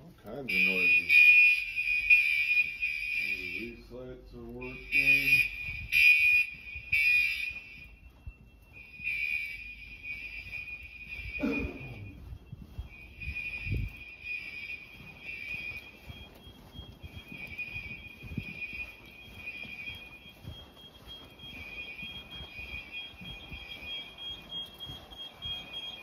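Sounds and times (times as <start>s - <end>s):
fire alarm high electronic tone: 0.0s - 26.0s.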